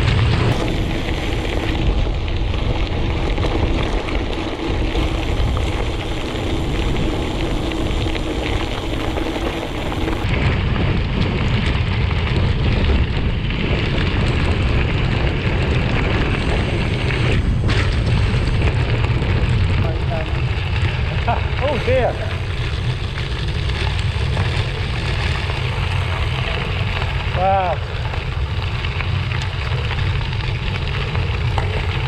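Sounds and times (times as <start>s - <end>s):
bike tyre noise on gravel: 0.0s - 32.0s
wind rumble on microphone: 0.0s - 32.0s.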